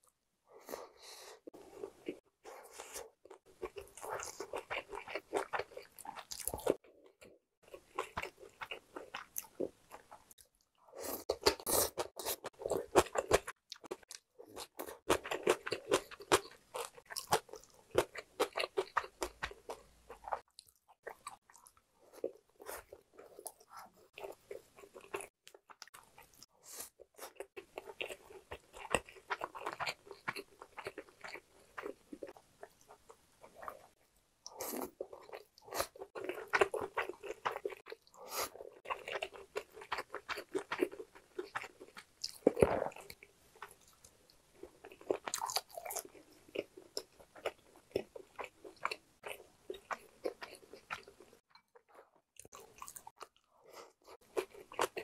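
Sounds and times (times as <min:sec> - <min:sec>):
person chewing food: 0:00.5 - 0:55.0.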